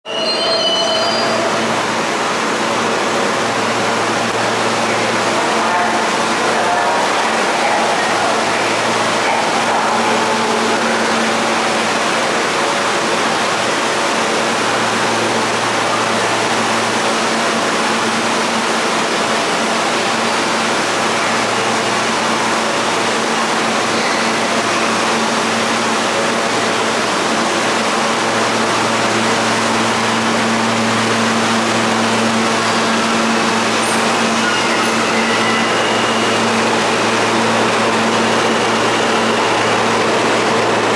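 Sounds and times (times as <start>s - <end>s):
subway train approaching: 0.0s - 40.9s
rushing rumble in tunnel: 1.4s - 40.9s.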